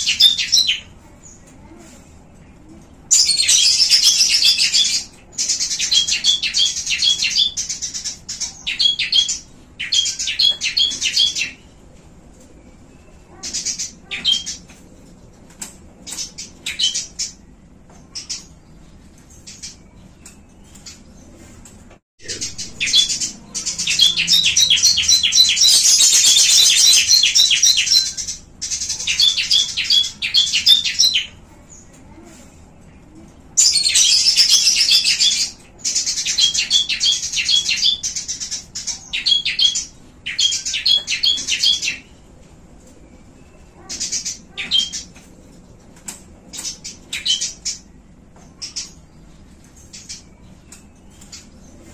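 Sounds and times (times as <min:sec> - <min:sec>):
small birds chirping and trilling: 0:00.0 - 0:51.9.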